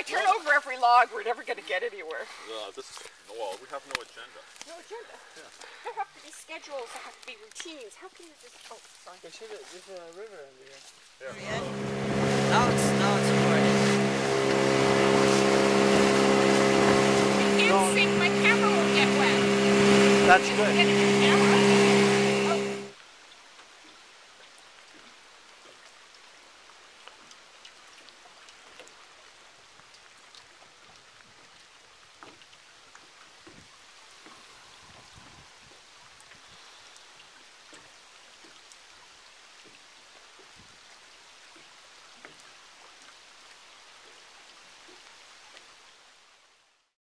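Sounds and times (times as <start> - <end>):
stream trickling and dripping: 0.0 - 22.3, 22.9 - 46.9.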